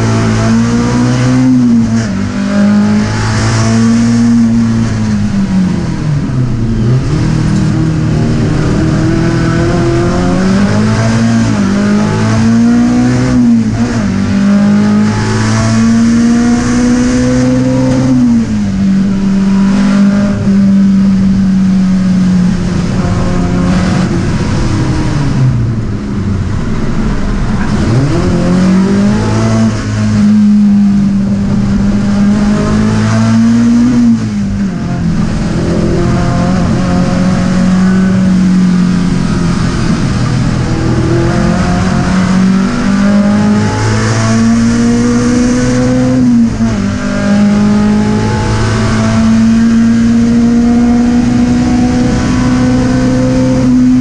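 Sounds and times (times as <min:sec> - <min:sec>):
race car engine at high revs: 0:00.0 - 0:54.0.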